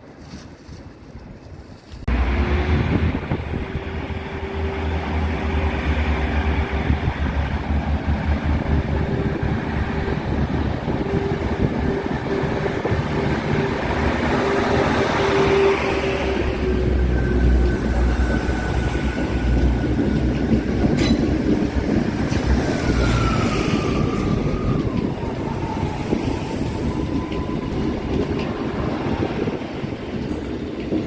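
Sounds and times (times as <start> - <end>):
wind rumble on microphone: 0.2 - 4.8, 5.9 - 15.1, 15.8 - 31.0
train humming tone: 2.1 - 31.0.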